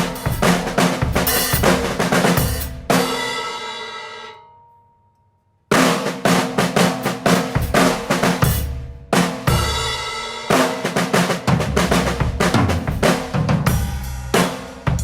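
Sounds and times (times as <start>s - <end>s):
drum kit beat: 0.0s - 3.9s, 5.7s - 15.0s.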